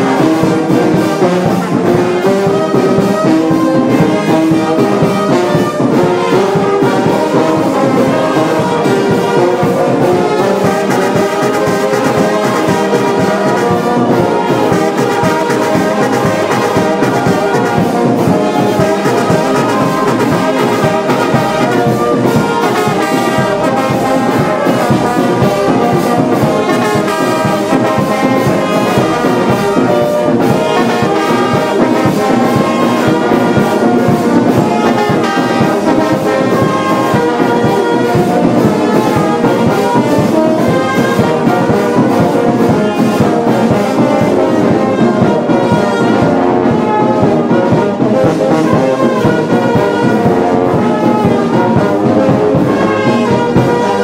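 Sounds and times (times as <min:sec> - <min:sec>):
brass music: 0:00.0 - 0:54.0
steady beat: 0:00.0 - 0:54.0.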